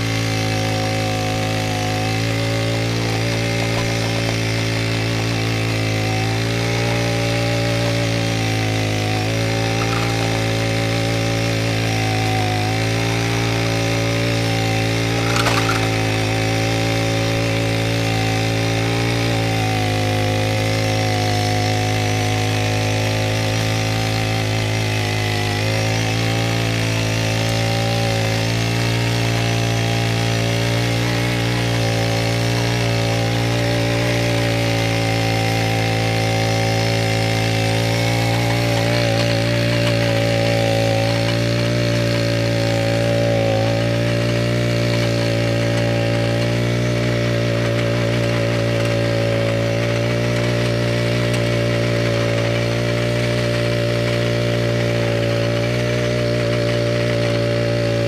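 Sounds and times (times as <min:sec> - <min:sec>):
tiller engine running: 0:00.0 - 0:58.0.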